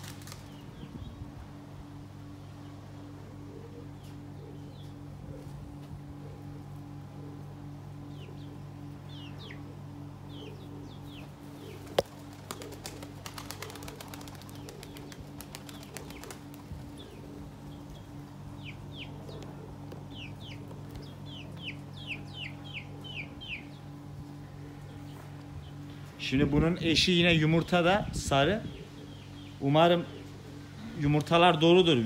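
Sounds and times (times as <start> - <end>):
small birds chirping: 0.0 - 1.4, 3.7 - 5.5, 7.9 - 32.0
steady low hum: 0.0 - 32.0.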